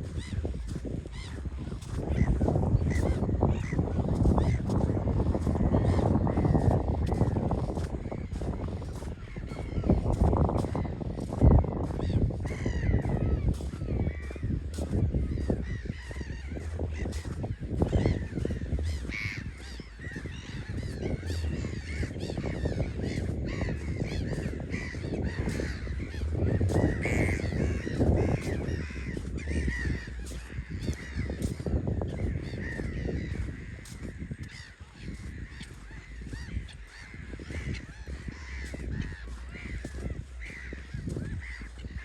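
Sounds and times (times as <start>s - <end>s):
seabirds calling: 0.0s - 42.0s
steady low rumble: 0.0s - 42.0s.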